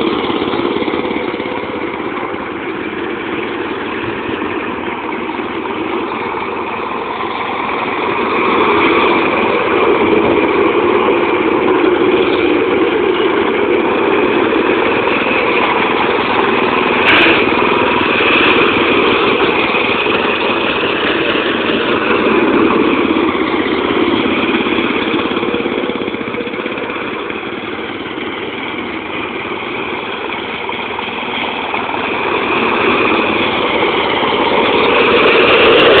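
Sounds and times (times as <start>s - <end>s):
riding lawn mower engine running: 0.0s - 36.0s.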